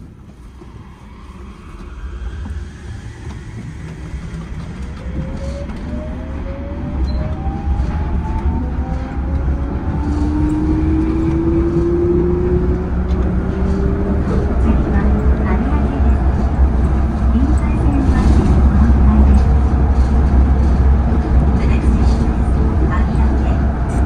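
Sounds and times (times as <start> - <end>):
train running rumble: 0.0 - 24.0.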